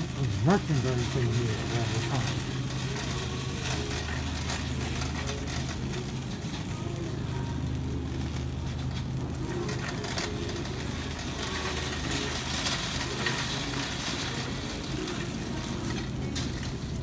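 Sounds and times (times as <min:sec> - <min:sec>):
shopping cart rattling: 0:00.0 - 0:17.0.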